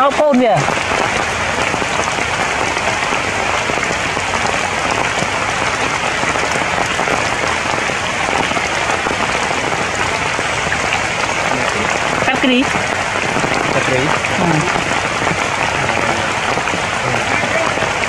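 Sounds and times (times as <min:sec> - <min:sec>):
rain on leaves: 0:00.0 - 0:18.0.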